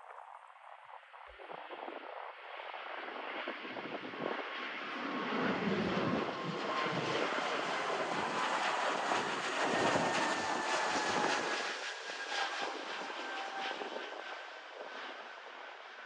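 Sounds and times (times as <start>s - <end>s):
jet engine rushing with whine: 1.6s - 16.0s.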